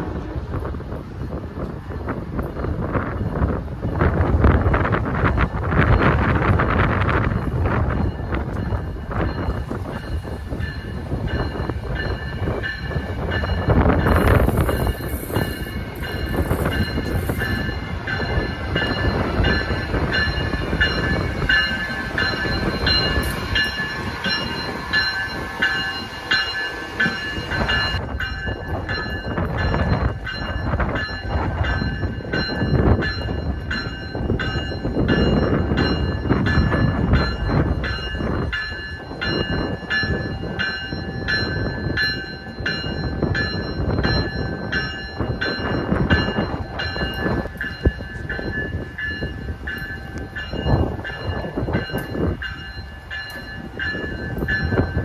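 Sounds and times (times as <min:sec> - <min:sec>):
electric locomotive rumble and whine: 0:00.0 - 0:55.0.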